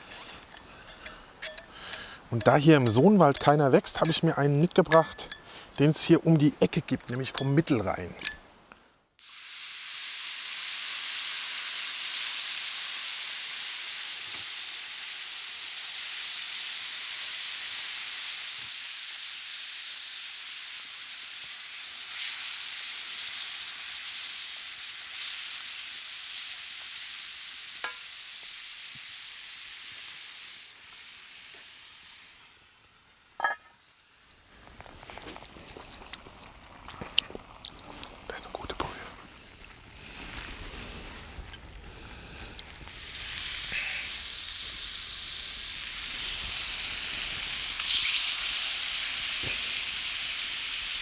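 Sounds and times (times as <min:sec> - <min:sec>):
rice sizzling in a hot pan: 0:00.0 - 0:06.0, 0:09.2 - 0:36.8, 0:39.0 - 0:51.0.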